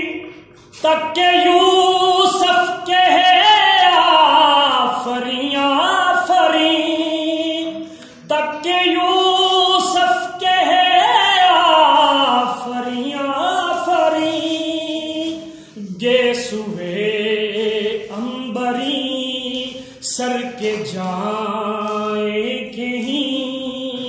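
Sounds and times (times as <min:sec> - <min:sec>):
man singing unaccompanied: 0:00.0 - 0:24.0.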